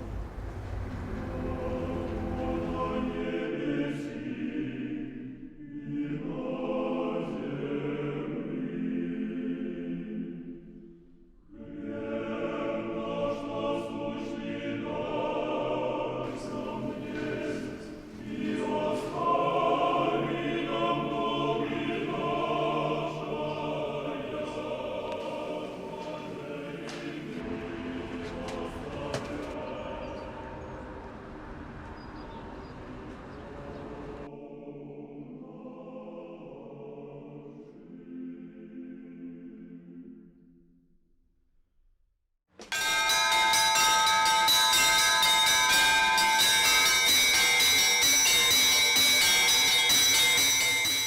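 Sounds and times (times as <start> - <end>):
choir singing: 0.0 - 40.5, 44.5 - 51.0.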